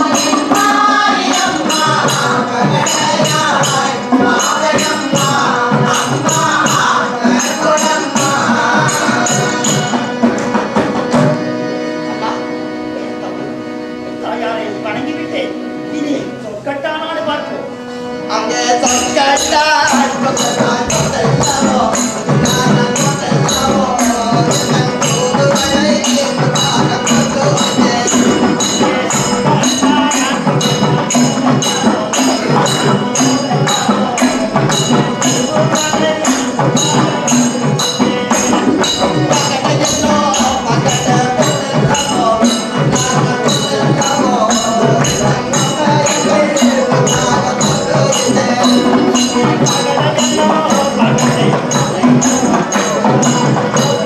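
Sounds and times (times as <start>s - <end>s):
metallic jingling beat: 0.0s - 12.6s, 18.0s - 54.0s
folk music melody: 0.0s - 54.0s.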